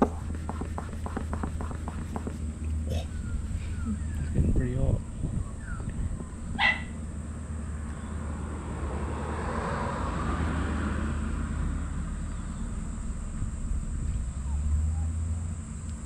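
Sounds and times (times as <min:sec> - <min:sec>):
low hum: 0:00.0 - 0:08.7, 0:11.7 - 0:16.0
vehicle passing: 0:00.0 - 0:15.7.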